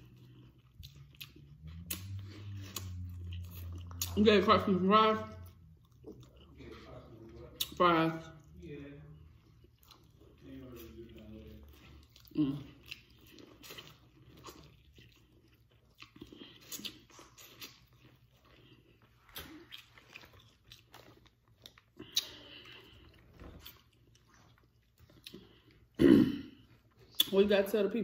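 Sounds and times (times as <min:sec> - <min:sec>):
biting and chewing food: 0:00.0 - 0:26.0.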